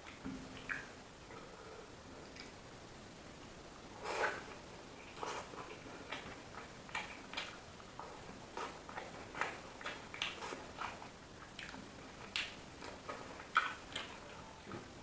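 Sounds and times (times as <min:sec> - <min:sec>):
wet chewing smacks and clicks: 0:00.0 - 0:01.0, 0:02.2 - 0:02.6, 0:04.0 - 0:15.0.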